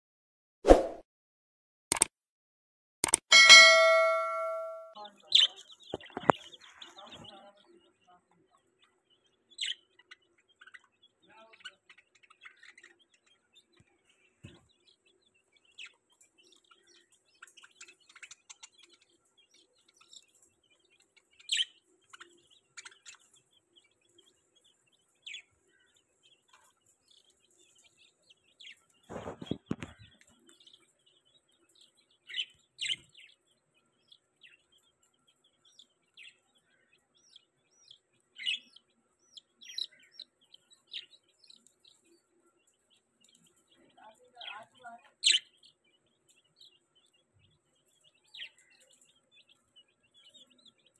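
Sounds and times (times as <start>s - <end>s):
birds chirping and peeping: 3.3s - 50.9s.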